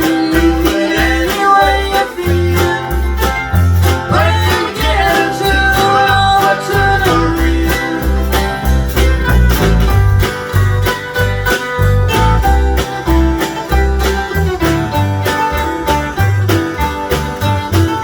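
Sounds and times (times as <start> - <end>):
upbeat country band playing: 0.0 - 18.0.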